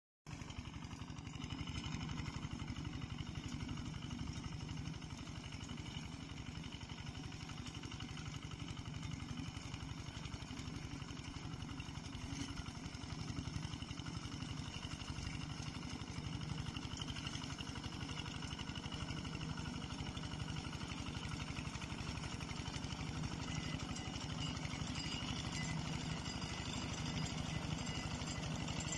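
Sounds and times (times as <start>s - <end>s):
diesel engine running under load: 0.3s - 28.9s.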